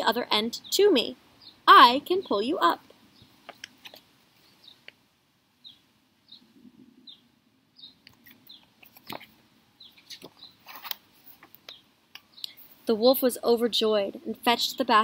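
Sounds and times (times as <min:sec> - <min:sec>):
faint bird chirping: 0:00.0 - 0:04.9, 0:05.5 - 0:15.0.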